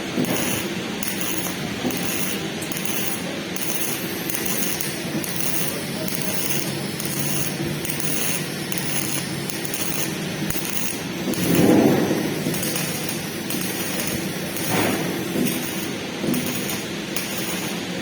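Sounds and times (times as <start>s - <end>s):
arc welding crackling hiss: 0.0s - 18.0s.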